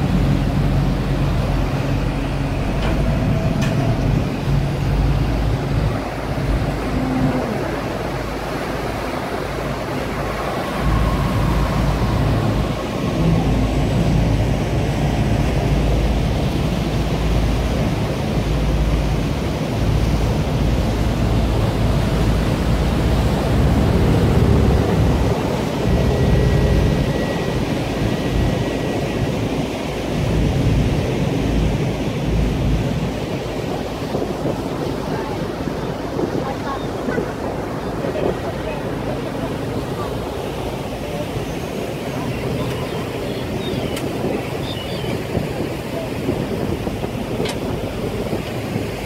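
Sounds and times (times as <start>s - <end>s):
boat engine: 0.0s - 49.0s
wake water rushing: 0.0s - 49.0s
wind buffeting microphone: 0.0s - 49.0s.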